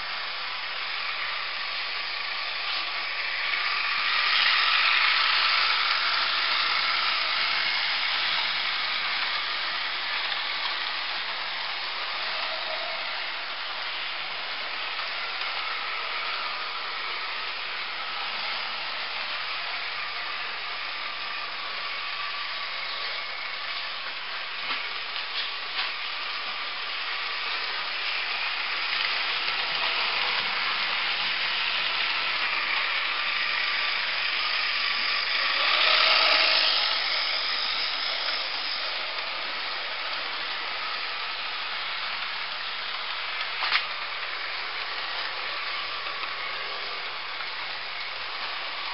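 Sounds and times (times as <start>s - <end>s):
faint electric motor whine: 0.0s - 48.9s
model train wheels hissing on rail: 0.0s - 48.9s.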